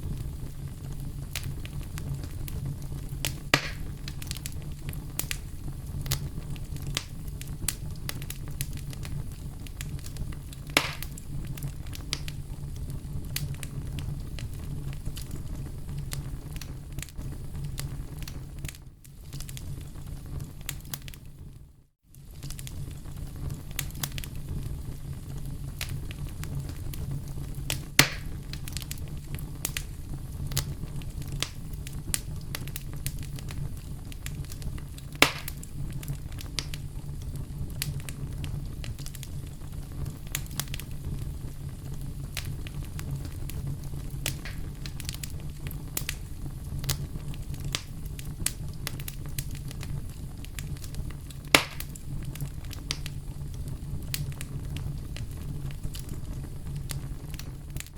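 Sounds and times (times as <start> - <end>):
bonfire crackling and popping: 0.0 - 57.9.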